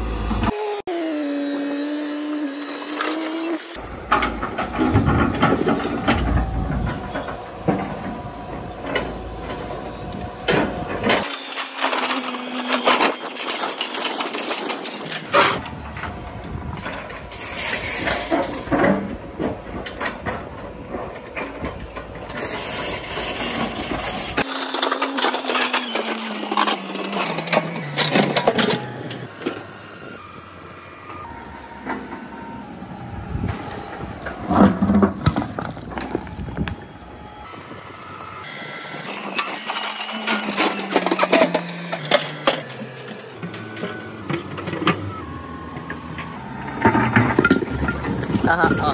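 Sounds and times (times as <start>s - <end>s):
excavator diesel engines revving: 0.0s - 48.9s.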